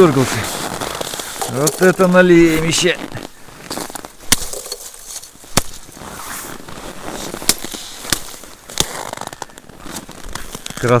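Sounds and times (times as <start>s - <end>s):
crackling rustle: 0.0s - 11.0s.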